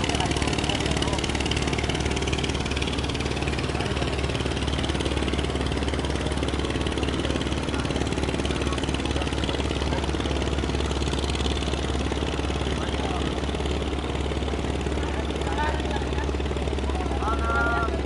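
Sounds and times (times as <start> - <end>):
ship engine low drone: 0.0 - 18.0.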